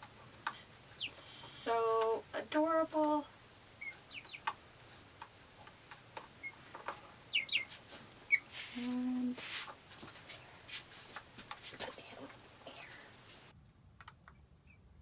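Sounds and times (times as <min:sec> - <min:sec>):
chicks peeping: 0:00.0 - 0:13.5.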